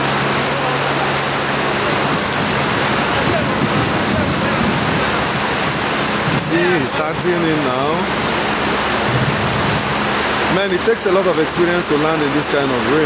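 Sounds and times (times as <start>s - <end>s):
heavy rain on tarmac: 0.0s - 13.0s.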